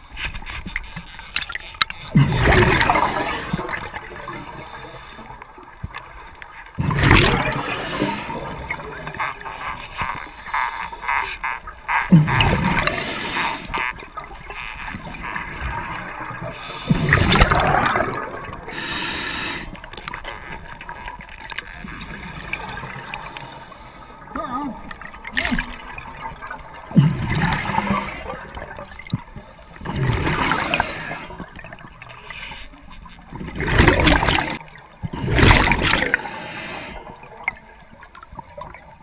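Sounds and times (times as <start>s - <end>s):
underwater bubbles gurgling: 0.0s - 39.0s
water noise: 0.0s - 39.0s.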